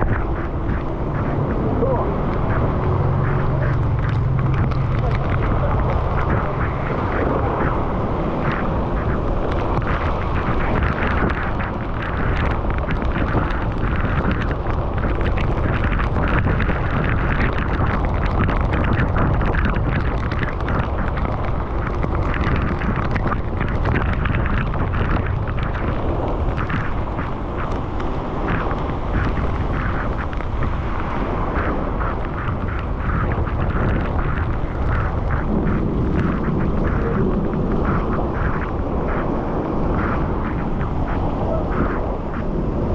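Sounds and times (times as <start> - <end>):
crackling: 0.0 - 42.9
wind rumbling on microphone: 0.0 - 42.9.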